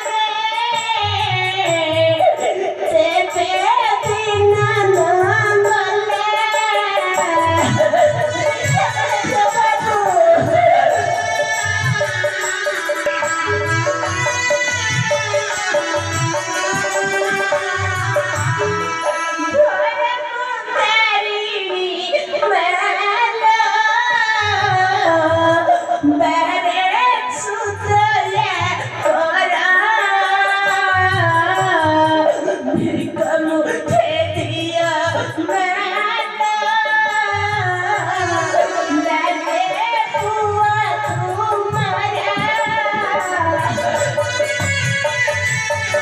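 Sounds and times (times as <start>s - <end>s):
instrumental accompaniment: 0.0s - 46.0s.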